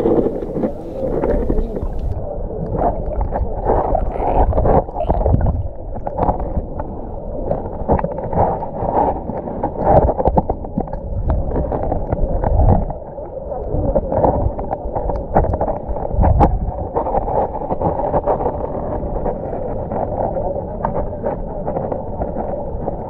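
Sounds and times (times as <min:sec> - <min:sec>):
muffled water sloshing and splashing: 0:00.0 - 0:23.0.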